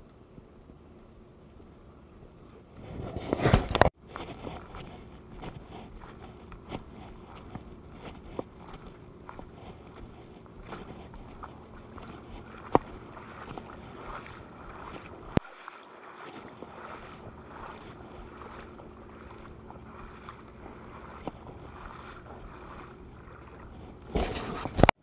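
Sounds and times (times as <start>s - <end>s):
boat engine drone: 0.0s - 24.9s
water noise: 0.0s - 25.0s
wind: 0.0s - 25.0s.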